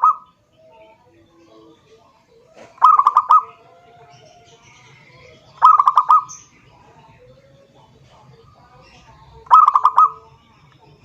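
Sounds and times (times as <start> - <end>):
dove staccato cooing: 0.0 - 11.0.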